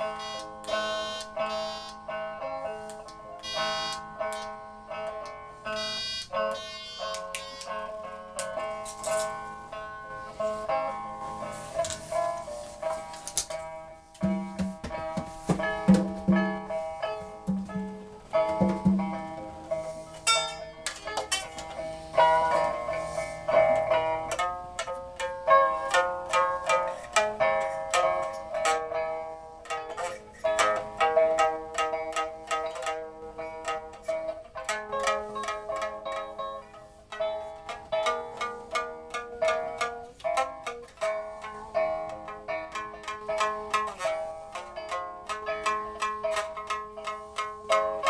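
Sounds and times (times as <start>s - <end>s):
plucked zither melody: 0.0s - 48.0s.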